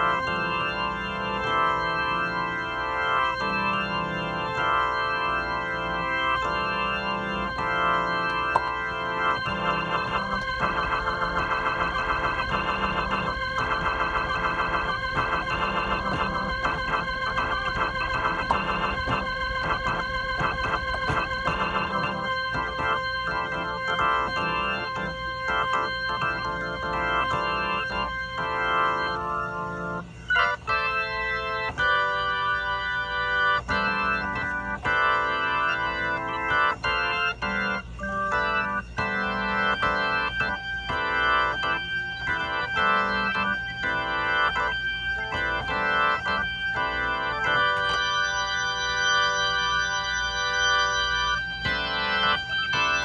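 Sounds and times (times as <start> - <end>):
organ chords through rotating speaker: 0.0 - 53.0.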